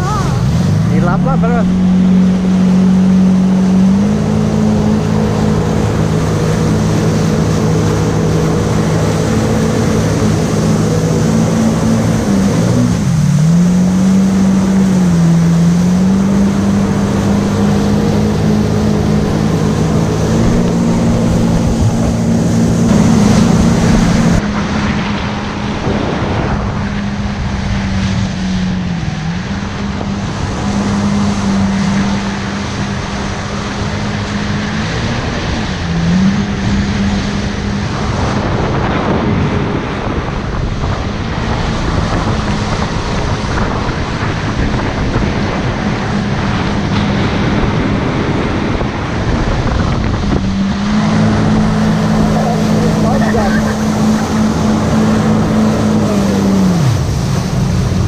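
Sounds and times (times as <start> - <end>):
rushing water spray: 0.0 - 58.0
watercraft engine drone: 0.0 - 58.0
wind: 0.0 - 58.0.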